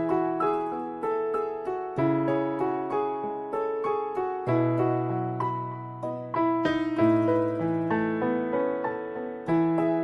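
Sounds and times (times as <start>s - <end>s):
slow piano melody: 0.0s - 10.0s.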